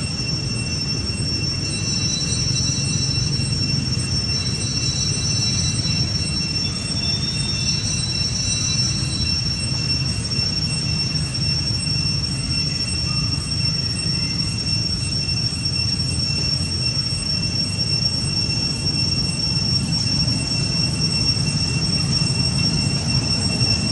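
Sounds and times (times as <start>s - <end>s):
high even whine: 0.0s - 23.9s.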